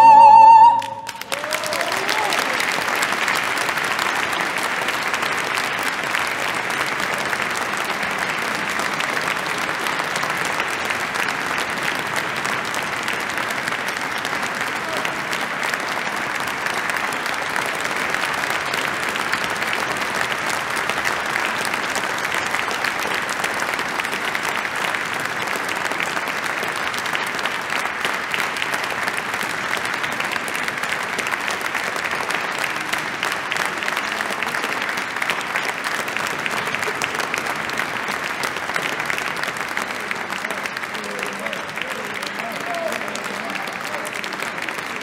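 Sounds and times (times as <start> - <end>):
crowd applauding: 0.0 - 45.0.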